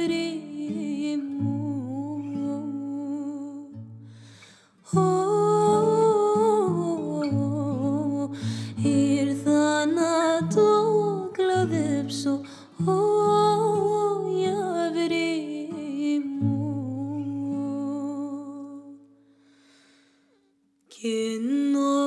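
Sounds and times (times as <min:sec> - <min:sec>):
woman singing wordless melody: 0:00.0 - 0:03.9, 0:04.8 - 0:19.2, 0:20.9 - 0:22.0
plucked acoustic guitar: 0:00.0 - 0:19.2.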